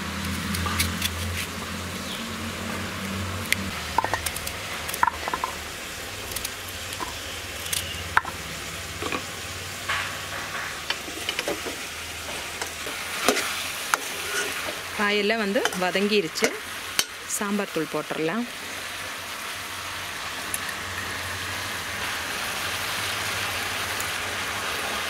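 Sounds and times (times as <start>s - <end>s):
vegetables sizzling in oil: 1.9s - 25.0s.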